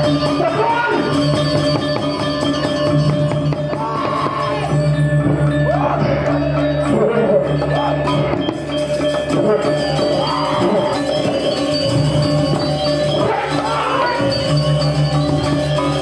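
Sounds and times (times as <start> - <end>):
drums: 0.0 - 16.0
metallophones and gongs ringing: 0.0 - 16.0.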